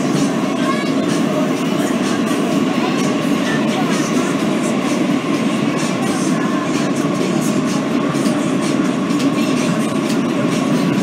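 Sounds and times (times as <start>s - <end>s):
clickety-clack of rails: 0.0s - 11.0s
subway train running at speed: 0.0s - 11.0s.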